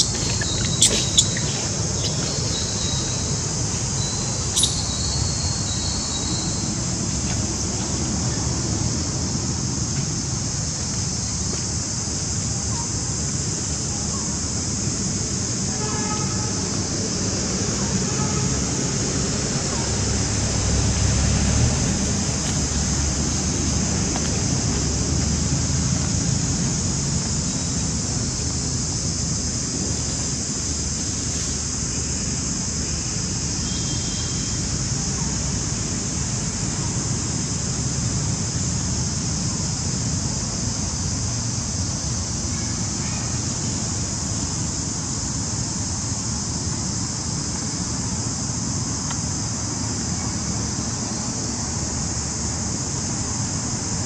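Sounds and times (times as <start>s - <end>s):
constant high hiss: 0.0s - 54.0s.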